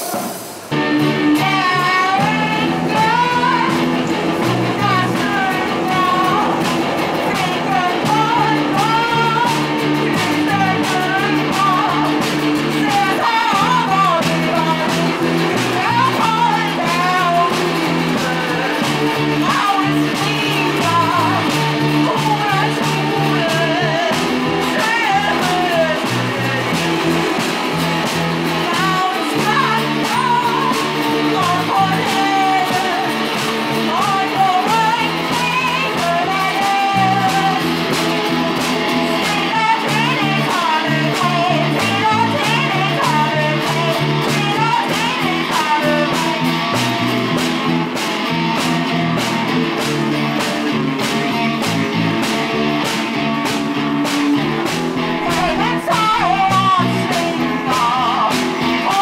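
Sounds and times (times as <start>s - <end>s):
drums with cymbal: 0.0s - 59.0s
guitar: 0.0s - 59.0s
person singing: 0.7s - 48.0s, 48.6s - 59.0s
electric bass riff: 0.7s - 59.0s.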